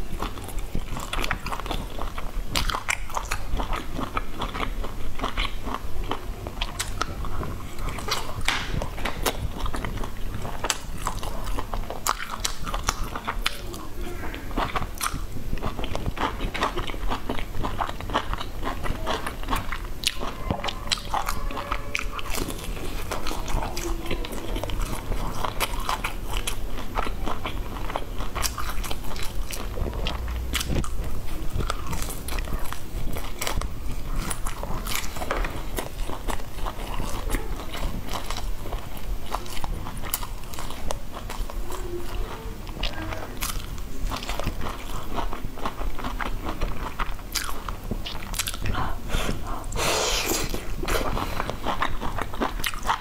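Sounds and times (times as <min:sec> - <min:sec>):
chewing sausage: 0:00.0 - 0:53.0.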